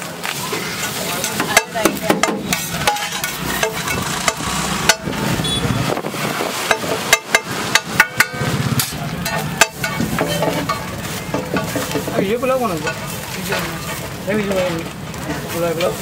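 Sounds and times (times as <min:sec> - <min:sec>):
metal spatula scraping a griddle: 0:00.0 - 0:05.4, 0:06.2 - 0:16.0.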